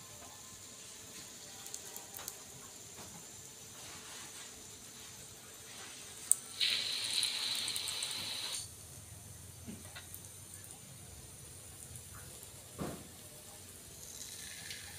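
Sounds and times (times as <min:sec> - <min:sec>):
hot oil sizzling: 0:00.0 - 0:14.9.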